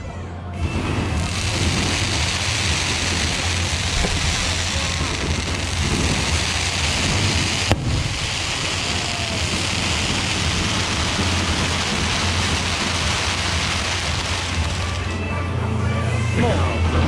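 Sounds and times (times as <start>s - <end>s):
sharp firework bang: 0.6s - 15.1s
fireworks hissing rush: 0.6s - 15.3s.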